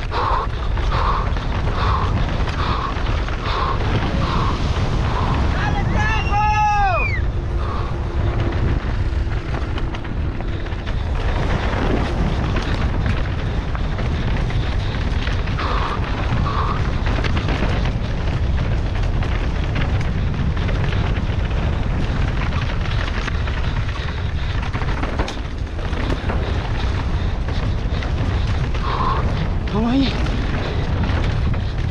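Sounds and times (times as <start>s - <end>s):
mountain bike rattling: 0.0s - 31.9s
wind buffeting microphone: 0.0s - 31.9s.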